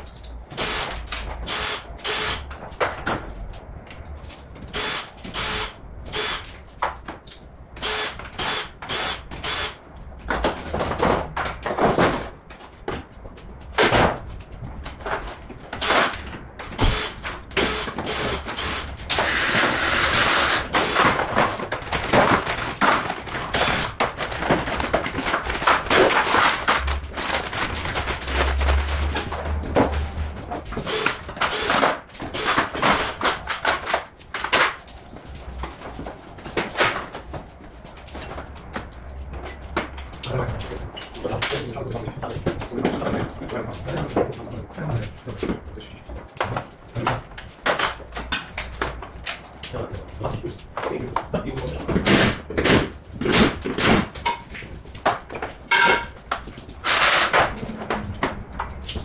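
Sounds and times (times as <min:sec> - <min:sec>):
car parts and tools clattering: 0:00.0 - 0:59.0.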